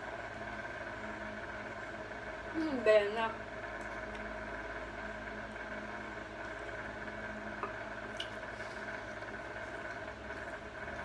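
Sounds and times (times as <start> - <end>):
electrical appliance hum: 0.0 - 11.0.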